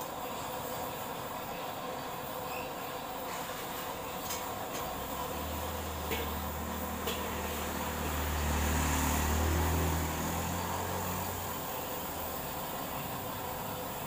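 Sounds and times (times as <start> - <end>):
gas burner roaring: 0.0 - 14.0.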